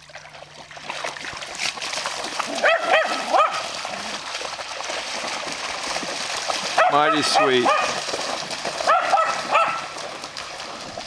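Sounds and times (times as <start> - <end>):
splashing water: 0.0 - 11.0.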